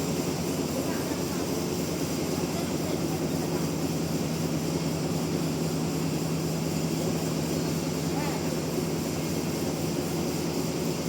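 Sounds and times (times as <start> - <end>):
sawmill machinery droning: 0.0 - 11.0.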